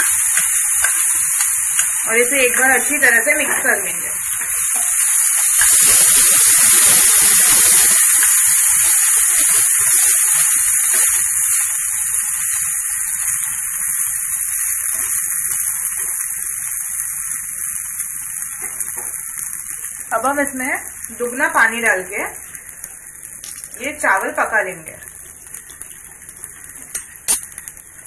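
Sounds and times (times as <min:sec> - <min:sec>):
rice sizzling in hot oil: 0:00.0 - 0:28.0.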